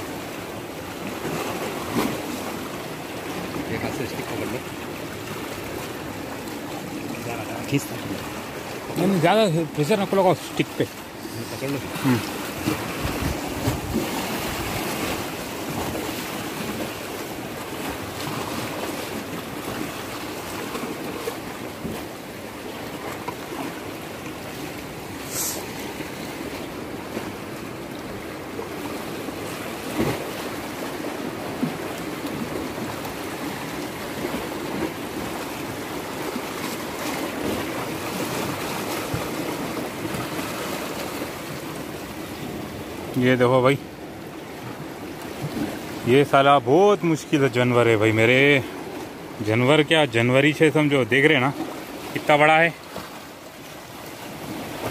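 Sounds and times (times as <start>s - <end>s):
waves washing over rocks: 0.0s - 54.9s.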